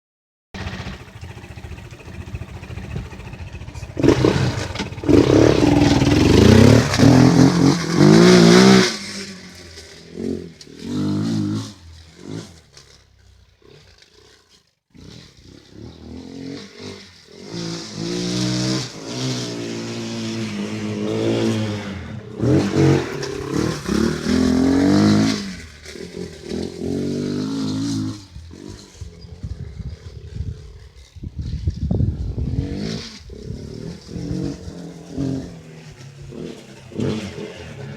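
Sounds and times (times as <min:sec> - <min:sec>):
atv engine revving: 0:00.6 - 0:37.9.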